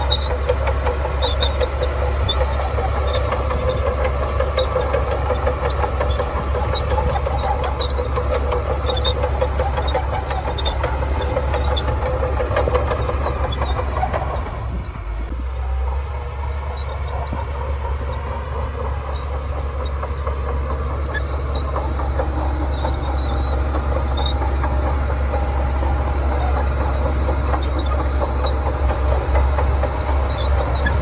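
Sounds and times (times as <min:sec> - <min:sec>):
bulldozer diesel engine rumbling: 0:00.0 - 0:31.0.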